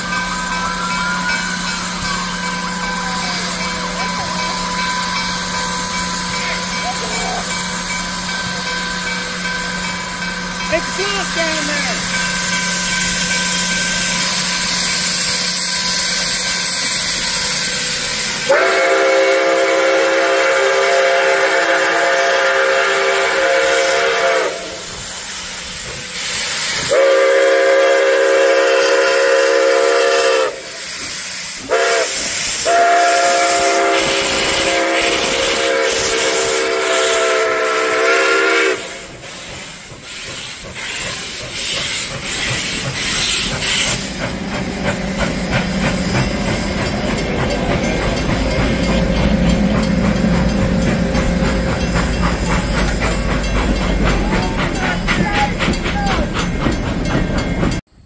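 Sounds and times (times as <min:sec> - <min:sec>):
steam locomotive chime whistle: 0:00.0 - 0:44.2, 0:44.8 - 0:58.0.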